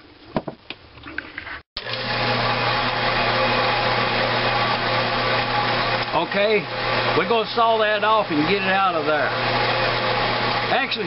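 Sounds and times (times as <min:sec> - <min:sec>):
bandsaw running: 0:01.8 - 0:11.0.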